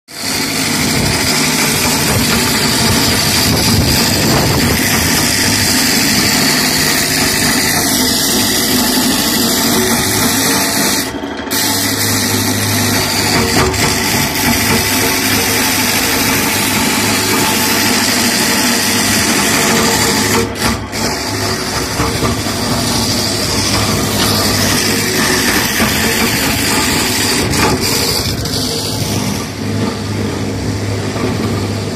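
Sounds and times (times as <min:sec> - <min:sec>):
floor grinding machine: 0:00.1 - 0:31.9.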